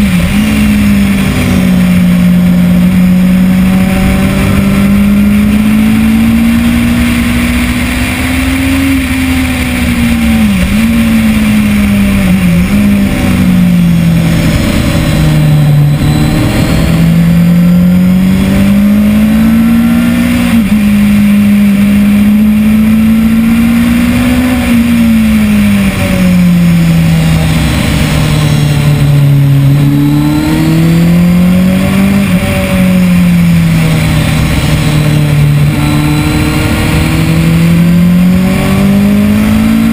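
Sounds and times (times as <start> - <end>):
motorcycle engine at racing revs: 0.0 - 39.9.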